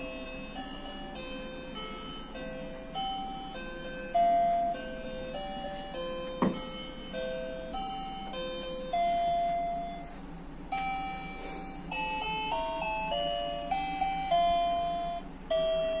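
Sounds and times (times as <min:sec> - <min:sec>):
electronic lullaby with bell-like notes: 0:00.0 - 0:16.0.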